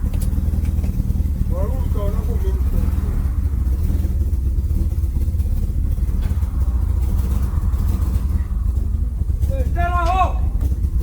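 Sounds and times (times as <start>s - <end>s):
car engine droning while driving: 0.0s - 11.0s.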